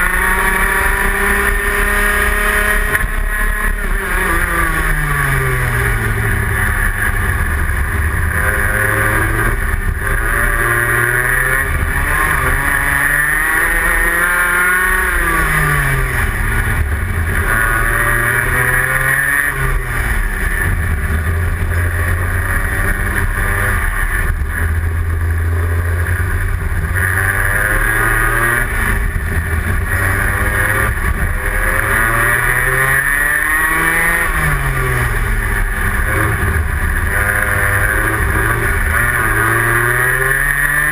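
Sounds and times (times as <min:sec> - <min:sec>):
kart engine racing: 0:00.0 - 0:40.9.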